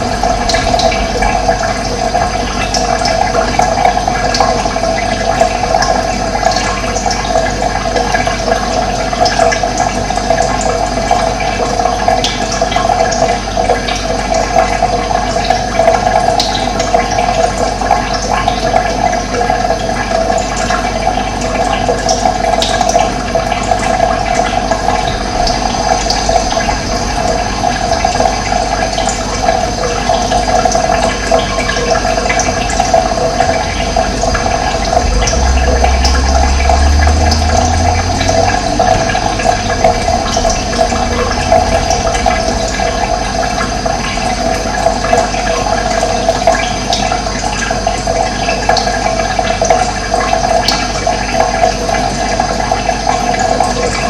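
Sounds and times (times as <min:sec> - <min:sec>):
water rushing: 0:00.0 - 0:54.0.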